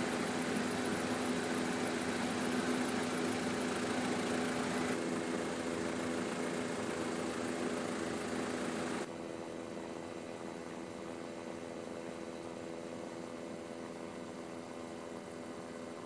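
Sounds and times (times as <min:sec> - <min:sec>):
aircraft engine and cabin drone: 0:00.0 - 0:16.0.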